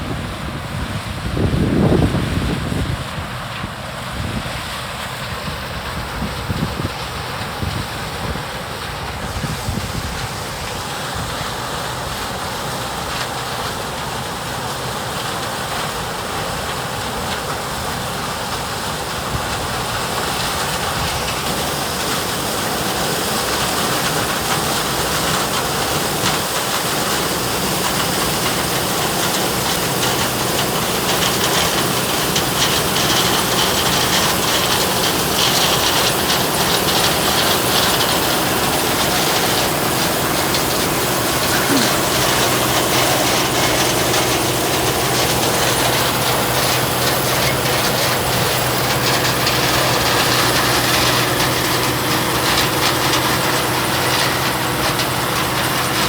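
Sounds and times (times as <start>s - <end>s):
farm machinery running: 0.0s - 56.0s.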